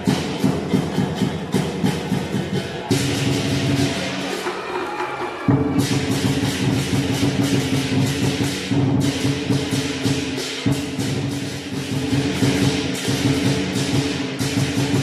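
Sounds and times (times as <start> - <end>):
crashing cymbals: 0.0 - 15.0
large drum beating fast rhythm: 0.0 - 15.0.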